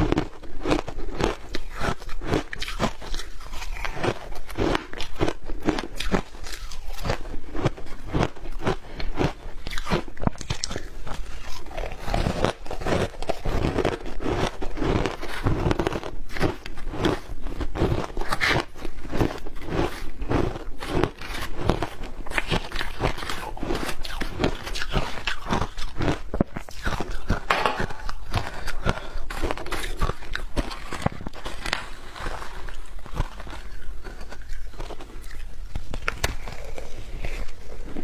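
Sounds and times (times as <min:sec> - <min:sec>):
crunching shaved ice: 0:00.0 - 0:27.5, 0:29.4 - 0:38.0.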